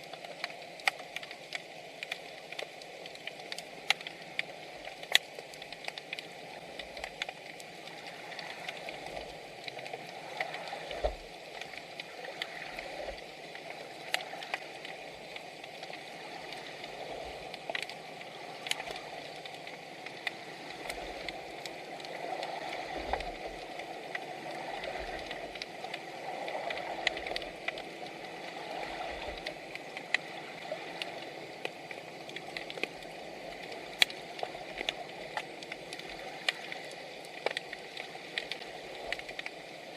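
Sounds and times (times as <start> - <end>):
sharp underwater clicks: 0.0 - 39.9
underwater rushing water: 0.0 - 39.9.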